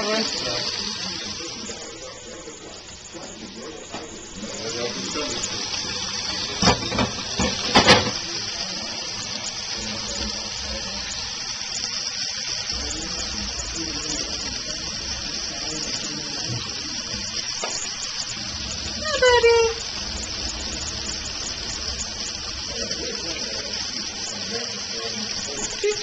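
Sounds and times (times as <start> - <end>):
faucet running into sink: 0.0 - 26.0.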